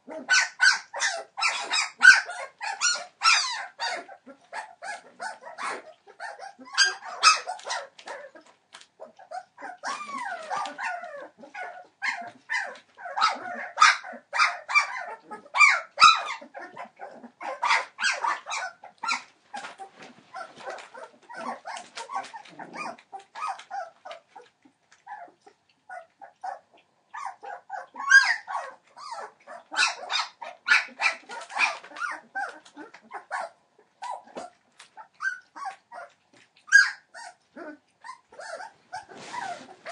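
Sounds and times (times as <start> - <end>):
puppies squealing and whining: 0.0 - 39.9.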